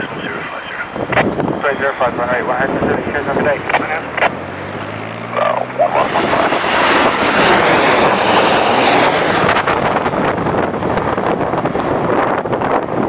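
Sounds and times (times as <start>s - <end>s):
airliner engines roaring: 0.0s - 13.0s
wind buffeting microphone: 0.0s - 13.0s.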